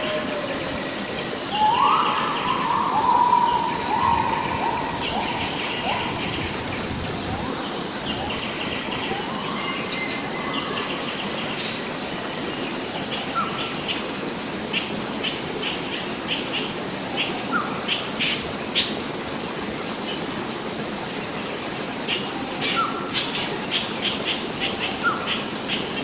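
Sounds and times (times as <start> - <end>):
wild birds chirping: 0.0 - 19.1, 20.1 - 26.0
constant high buzz: 0.0 - 26.0
steady background hiss: 0.0 - 26.0.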